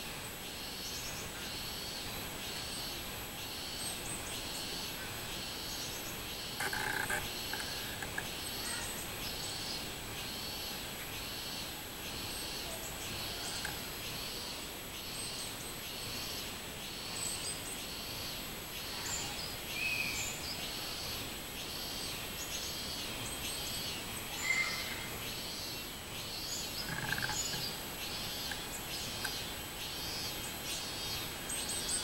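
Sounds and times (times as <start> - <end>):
cicada pulsing song: 0.2 - 32.0.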